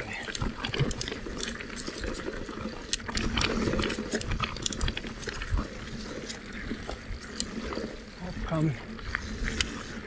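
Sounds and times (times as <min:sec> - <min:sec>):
tyres crunching over stones: 0:00.0 - 0:09.3
bike rattling: 0:00.0 - 0:10.0
constant low rumble: 0:00.0 - 0:10.0.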